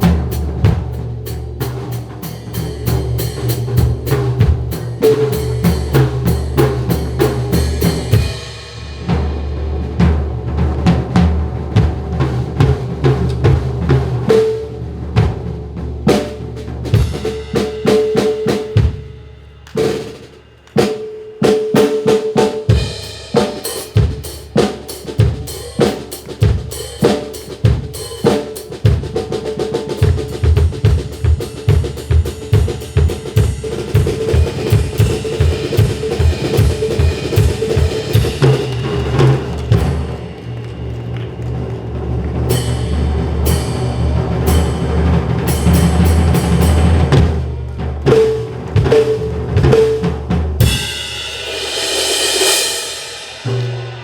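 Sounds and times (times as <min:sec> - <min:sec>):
rapid snare and bass drum: 0:00.0 - 0:54.0.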